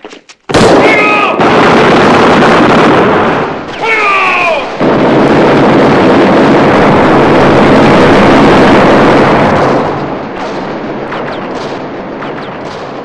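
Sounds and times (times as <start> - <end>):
rifle gunshots: 0.5 - 13.0.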